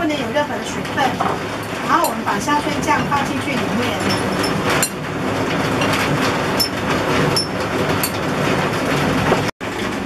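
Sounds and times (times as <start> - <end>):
steady background noise: 0.0 - 10.0.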